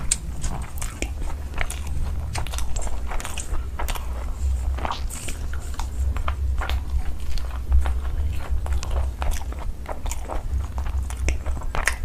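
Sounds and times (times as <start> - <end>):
chewing and crunching: 0.0 - 12.0
low steady hum: 0.0 - 12.0
wet mouth clicks: 0.0 - 12.0.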